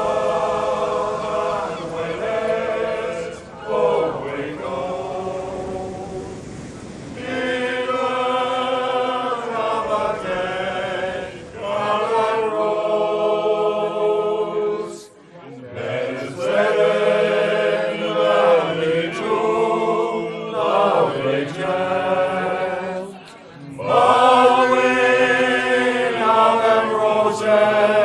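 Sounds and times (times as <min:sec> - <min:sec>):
men singing unaccompanied: 0:00.0 - 0:28.0.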